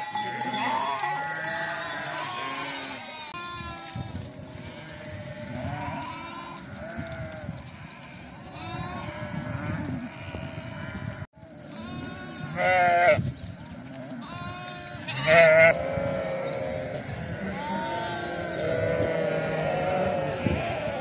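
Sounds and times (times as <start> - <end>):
sheep and lambs bleating: 0.0 - 21.0.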